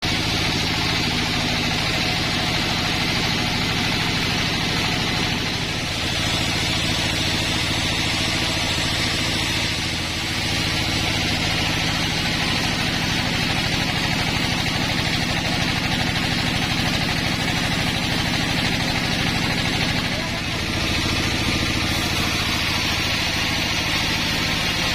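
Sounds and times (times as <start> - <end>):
sawmill engine droning: 0.0 - 24.9.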